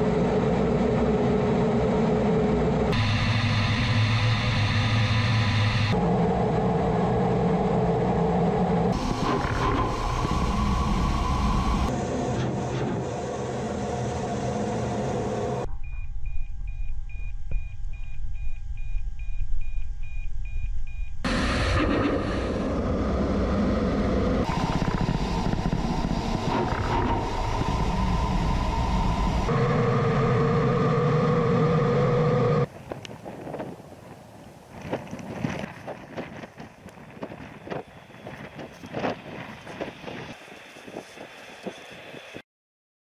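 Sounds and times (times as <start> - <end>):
jet engine and rushing air rumble: 0.0 - 42.4.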